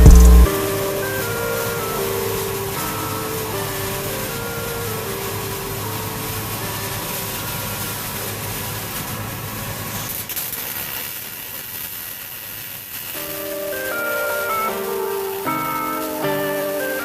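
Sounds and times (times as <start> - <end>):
welding arc crackling and hissing: 0.0 - 17.0.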